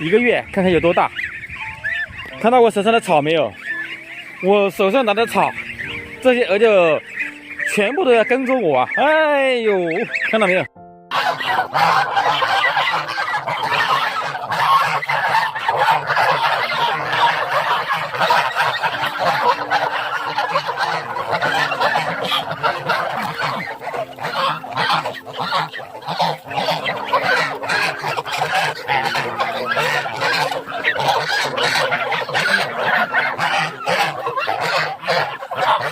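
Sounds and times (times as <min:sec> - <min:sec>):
goslings honking and peeping: 0:00.0 - 0:35.9.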